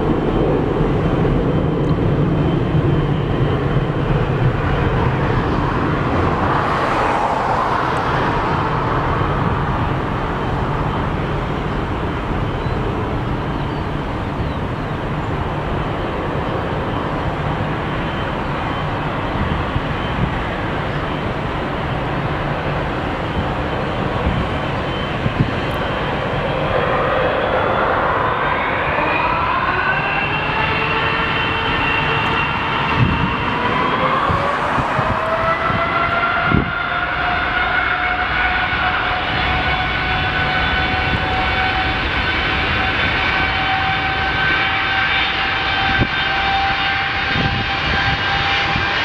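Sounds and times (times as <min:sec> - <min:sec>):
jet engine whine rising: 0:00.0 - 0:49.0
jet engines rumbling: 0:00.0 - 0:49.0.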